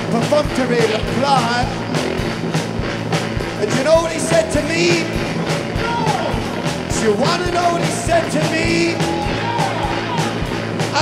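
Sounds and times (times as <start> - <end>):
fast driving drum beat: 0.0 - 11.0.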